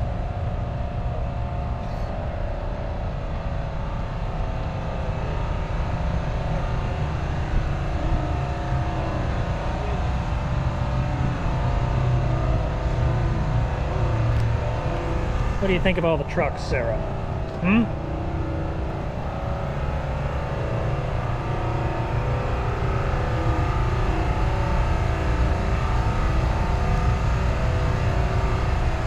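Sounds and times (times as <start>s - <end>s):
diesel truck engine idling: 1.8s - 29.0s.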